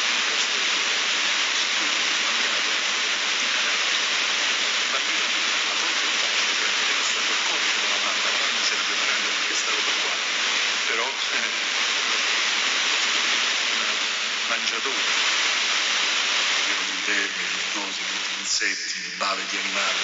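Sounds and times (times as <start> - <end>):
man preaching faintly: 0.0 - 15.1, 16.6 - 20.0
recording hiss: 0.0 - 20.0.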